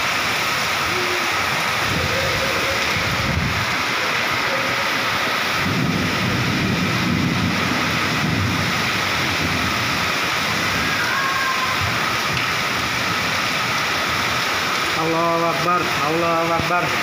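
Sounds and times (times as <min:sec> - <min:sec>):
low rumbling: 0:00.0 - 0:14.9
heavy rain rushing: 0:00.0 - 0:17.0.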